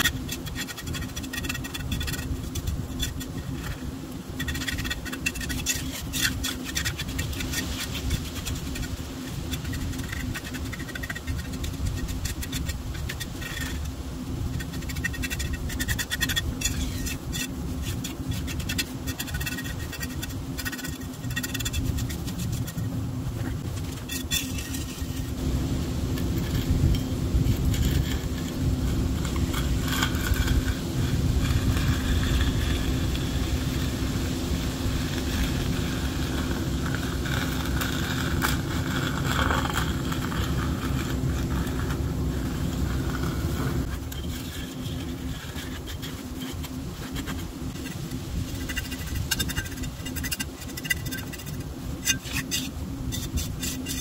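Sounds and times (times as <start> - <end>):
hand tool scraping wet concrete: 0.0 - 54.0
steady low hum: 0.0 - 54.0.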